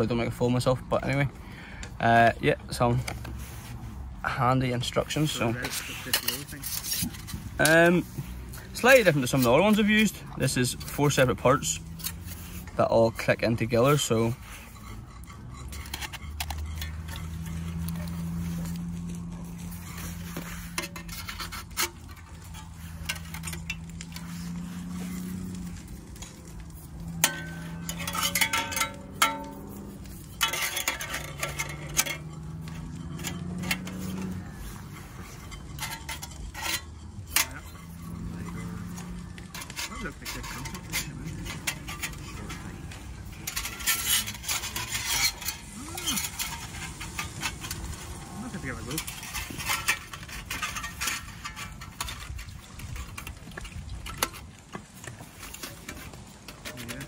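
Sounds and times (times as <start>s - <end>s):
metal panels clinking: 4.9s - 57.0s.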